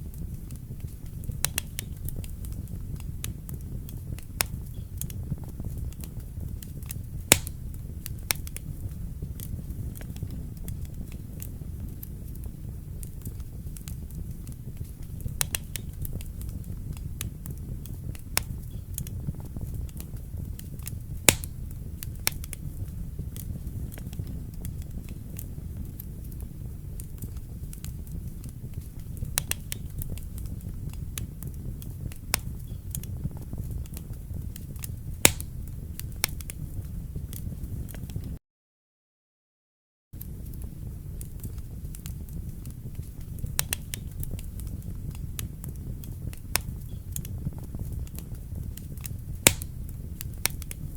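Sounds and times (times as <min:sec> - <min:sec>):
fireplace fire crackling: 0:00.0 - 0:38.4, 0:40.2 - 0:50.9
sharp fire pops: 0:00.0 - 0:38.4, 0:40.2 - 0:50.9.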